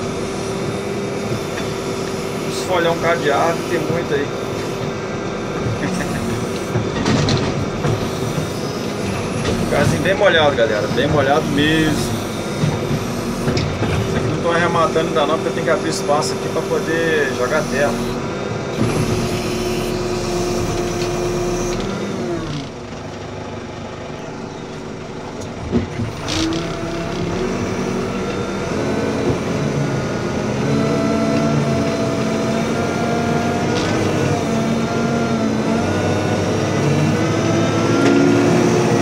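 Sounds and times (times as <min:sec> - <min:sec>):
backhoe diesel engine: 0:00.0 - 0:39.0.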